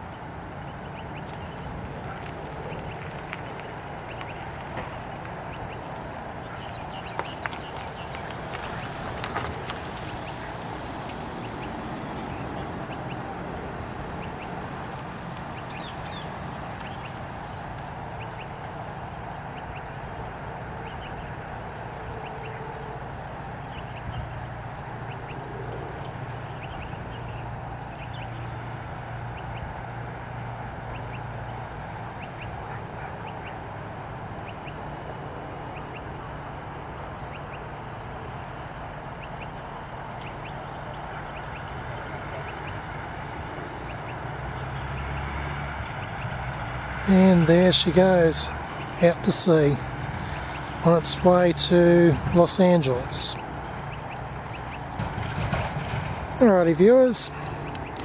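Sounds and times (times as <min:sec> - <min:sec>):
bird calls: 0:00.0 - 0:58.0
distant jet engine rumble: 0:00.0 - 0:58.0.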